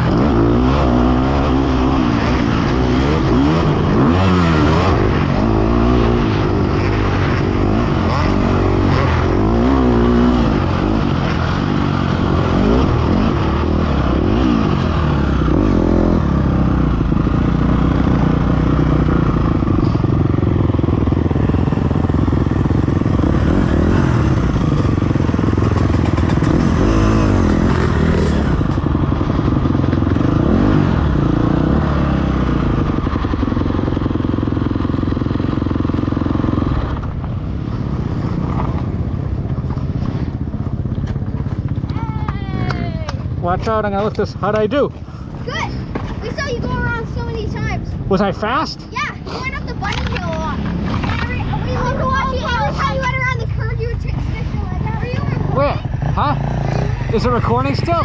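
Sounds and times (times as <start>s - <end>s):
dirt bike engine revving: 0.0s - 42.0s, 43.3s - 58.0s.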